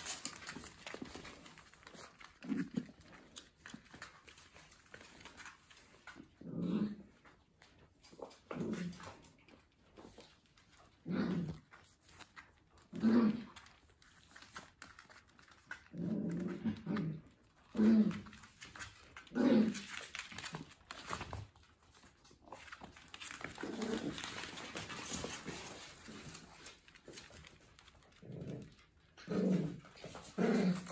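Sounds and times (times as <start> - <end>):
puppies growling and whining: 0.0 - 30.9.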